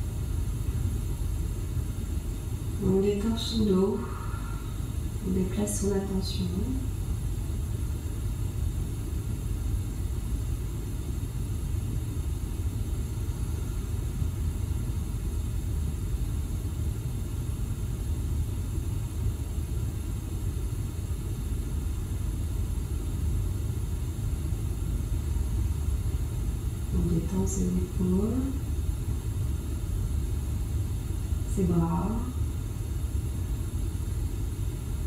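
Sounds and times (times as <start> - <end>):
high-pitched whine: 0.0 - 35.0.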